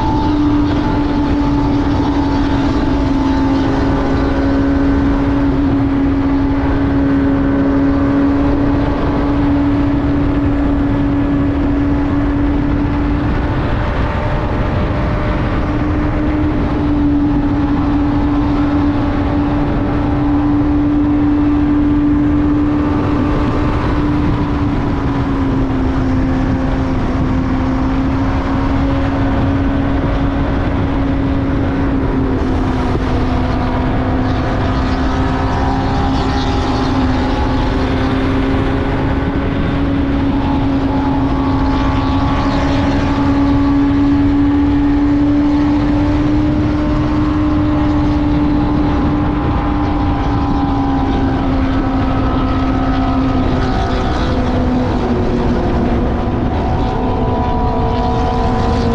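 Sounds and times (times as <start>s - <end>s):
motorcycle engine cruising: 0.0s - 58.9s
wind rumble on microphone: 0.0s - 58.9s.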